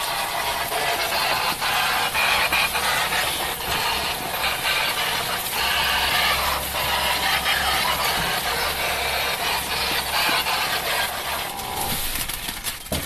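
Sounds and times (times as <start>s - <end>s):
motor humming low: 0.0s - 12.4s
pressure washer water jet hissing: 0.0s - 12.4s.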